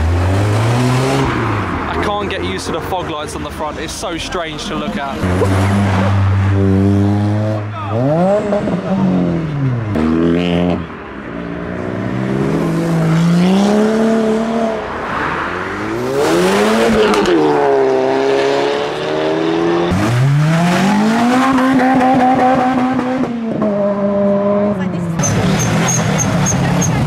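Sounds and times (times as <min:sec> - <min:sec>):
cars accelerating: 0:00.0 - 0:27.0.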